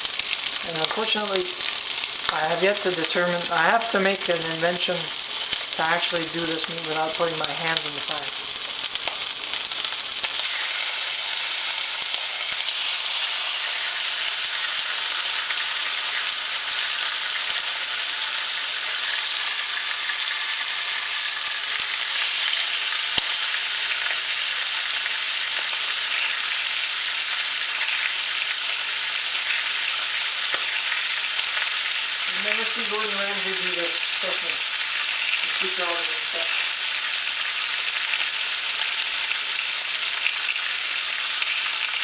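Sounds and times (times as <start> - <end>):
meat sizzling in a pan: 0.0 - 42.0.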